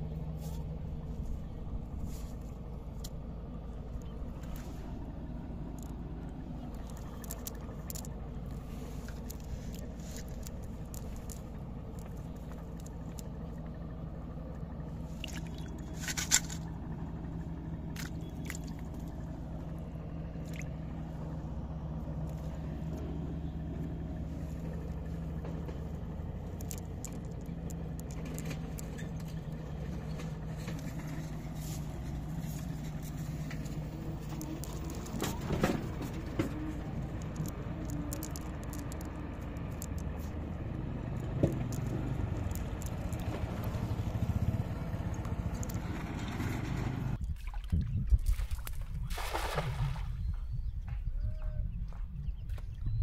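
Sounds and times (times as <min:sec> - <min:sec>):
motor humming: 0:00.0 - 0:47.2
small clicks and rustles: 0:00.4 - 0:20.9, 0:21.9 - 0:46.9.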